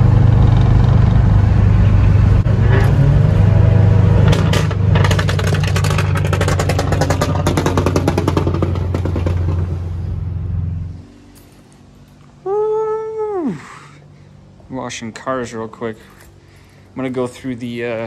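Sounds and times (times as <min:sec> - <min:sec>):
car engine exhaust drone: 0:00.0 - 0:18.0.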